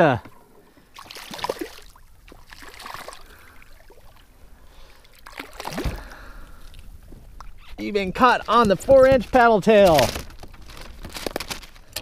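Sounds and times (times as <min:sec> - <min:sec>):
water splashing and sloshing: 0:00.3 - 0:12.0.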